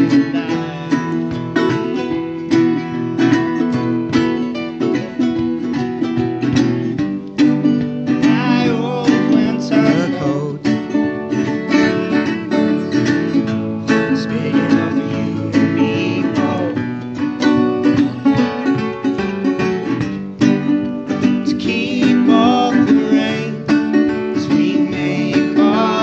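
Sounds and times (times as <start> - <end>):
acoustic slide guitar blues: 0.0 - 26.0.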